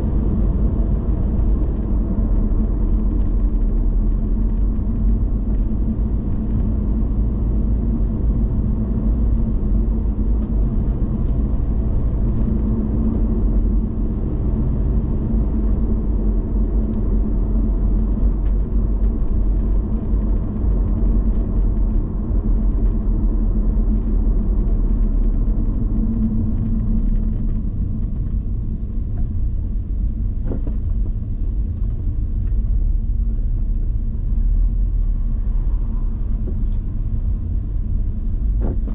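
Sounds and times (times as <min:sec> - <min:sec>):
car engine rumble: 0:00.0 - 0:38.9.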